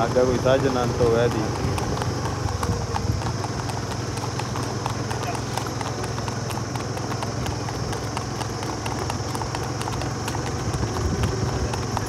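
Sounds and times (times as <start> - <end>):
horse hooves clip-clopping on pavement: 0.0 - 12.0.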